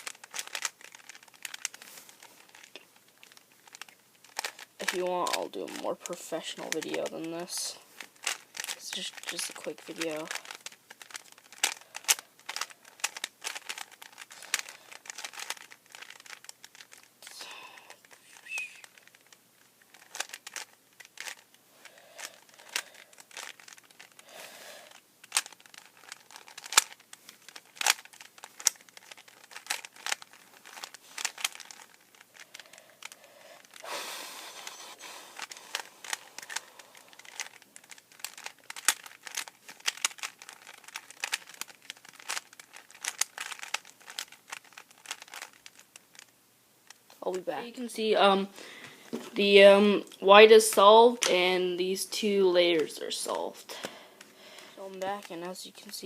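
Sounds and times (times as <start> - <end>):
puzzle cube clicking: 0.0 - 7.4, 8.1 - 21.5, 22.2 - 46.3.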